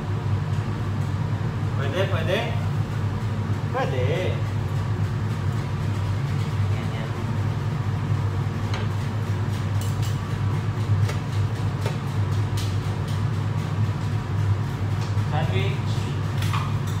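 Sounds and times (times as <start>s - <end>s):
extractor fan drone: 0.0s - 17.0s.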